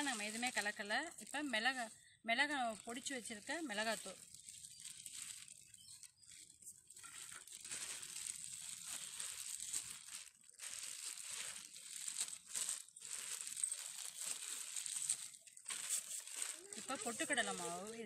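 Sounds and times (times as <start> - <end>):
noodles rustling: 0.0 - 1.9, 2.7 - 18.0
plastic glove crinkling: 0.0 - 1.9, 2.5 - 18.0.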